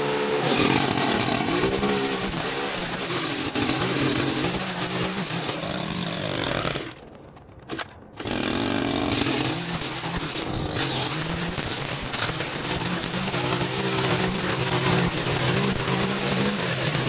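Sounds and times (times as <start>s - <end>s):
small gas engine running: 0.0s - 7.0s, 8.2s - 17.0s.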